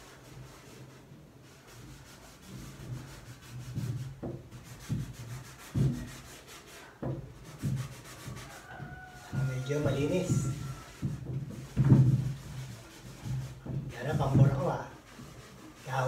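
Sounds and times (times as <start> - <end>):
cloth rubbing on chalkboard: 0.0 - 16.0.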